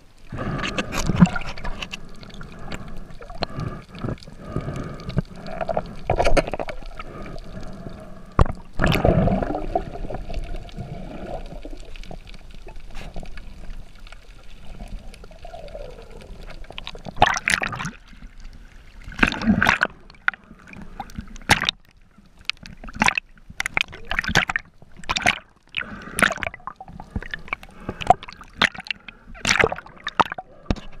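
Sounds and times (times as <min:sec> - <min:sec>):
water sloshing and gurgling: 0:00.0 - 0:31.0.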